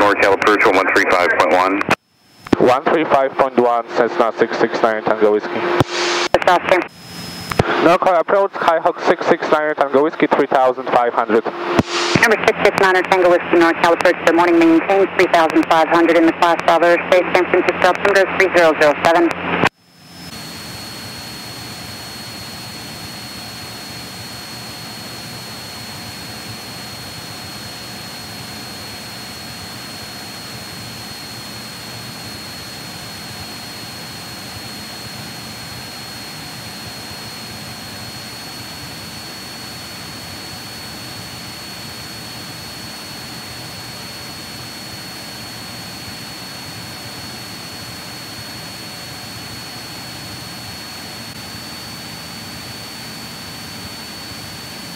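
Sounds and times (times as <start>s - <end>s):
airplane engine and propeller drone: 0.0s - 54.9s.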